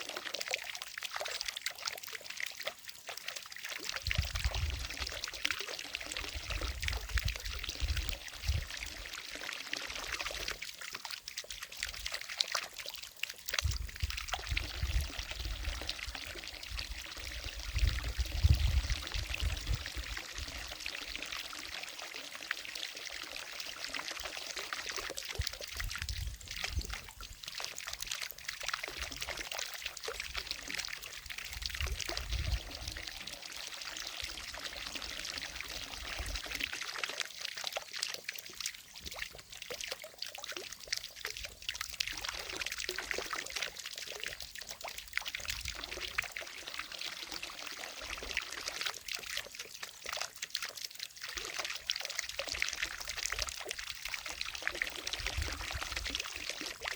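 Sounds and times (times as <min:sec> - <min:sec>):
fountain water splashing into lake: 0:00.0 - 0:56.9.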